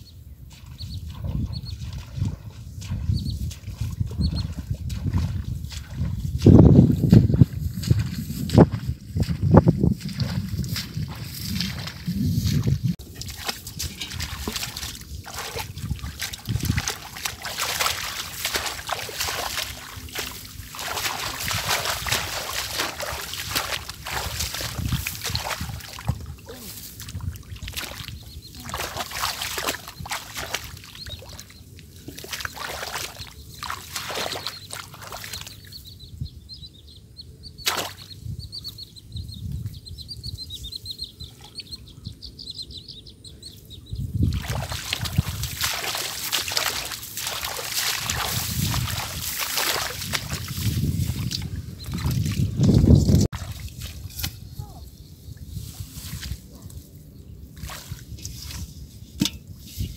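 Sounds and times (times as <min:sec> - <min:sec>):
water splashing and sloshing: 0:00.5 - 0:35.9, 0:37.6 - 0:38.2, 0:44.1 - 0:54.4, 0:57.4 - 0:59.8.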